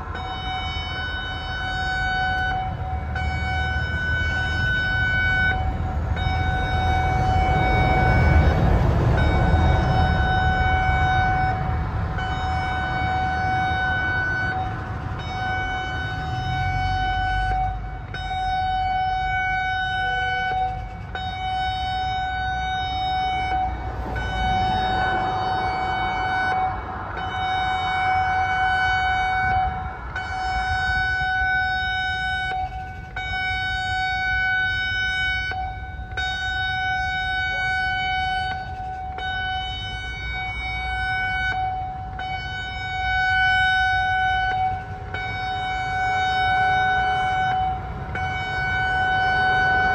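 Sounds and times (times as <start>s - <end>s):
warning siren steady tone: 0.0s - 49.9s.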